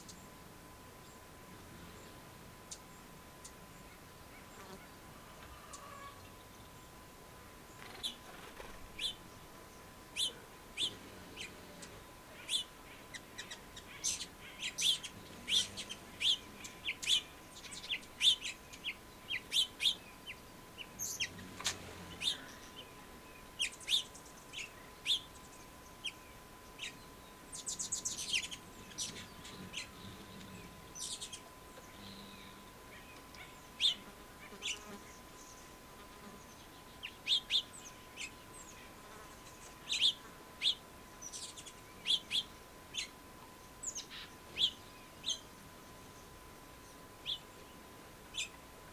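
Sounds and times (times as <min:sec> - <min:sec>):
finches chirping: 0:07.7 - 0:48.6.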